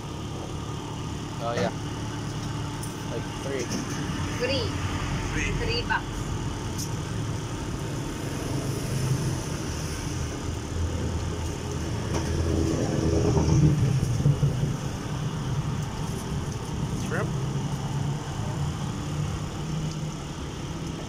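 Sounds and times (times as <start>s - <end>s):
vehicles passing: 0.0s - 21.0s.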